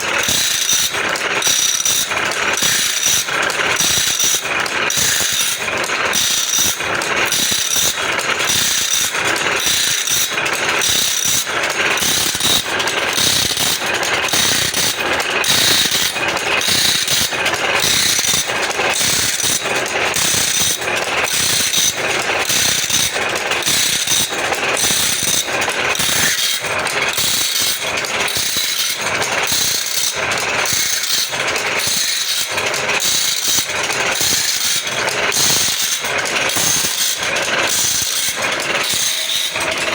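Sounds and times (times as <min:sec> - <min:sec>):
saw sharpening machine clattering: 0:00.0 - 0:39.9.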